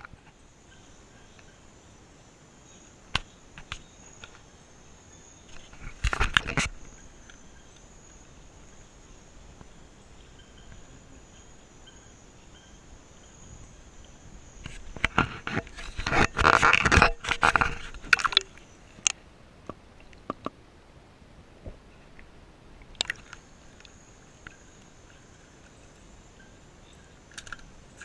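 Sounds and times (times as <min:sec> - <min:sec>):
insects chirring: 0:00.0 - 0:19.2, 0:22.8 - 0:28.0.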